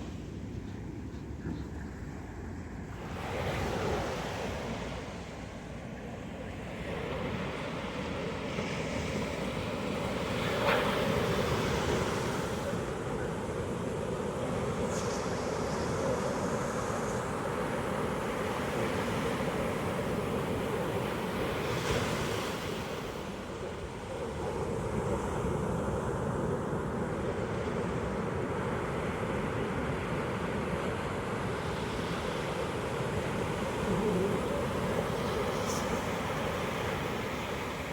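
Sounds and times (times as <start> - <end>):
ocean surf breaking on beach: 6.6 - 37.9.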